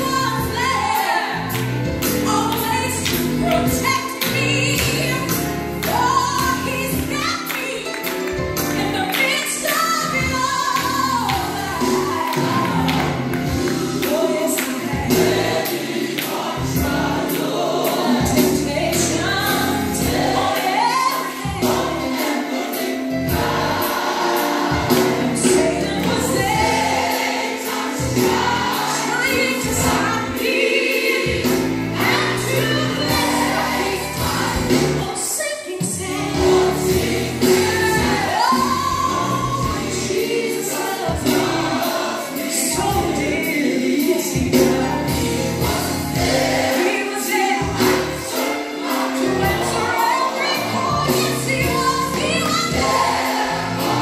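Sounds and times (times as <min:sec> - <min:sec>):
choir singing gospel song: 0:00.0 - 0:54.0.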